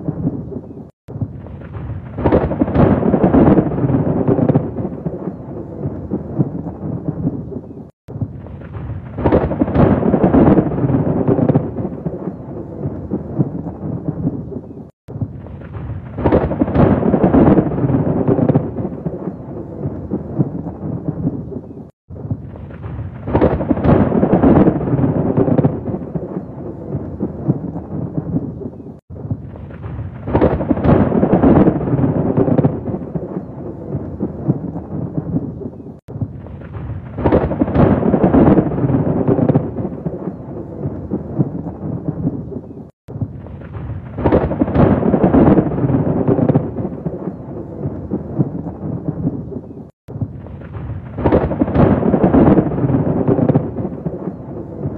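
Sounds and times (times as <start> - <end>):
rolling thunder: 0.0 - 54.9.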